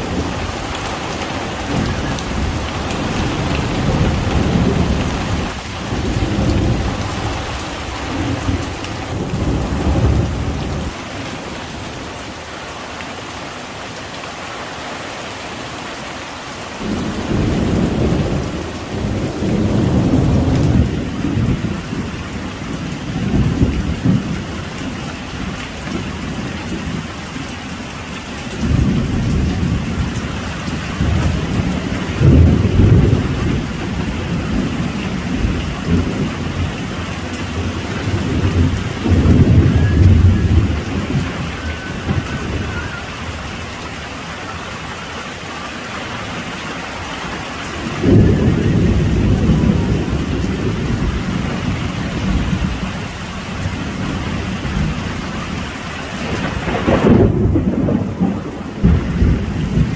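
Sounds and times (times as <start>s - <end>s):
thunder rumbling: 0.0s - 12.2s, 16.8s - 27.6s, 28.4s - 44.2s, 47.7s - 59.9s
heavy rain falling: 0.0s - 59.9s.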